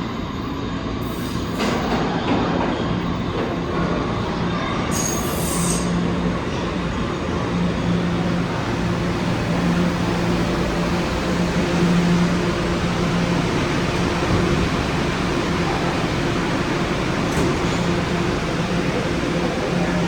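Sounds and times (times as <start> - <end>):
subway car rolling rumble: 0.0 - 20.0.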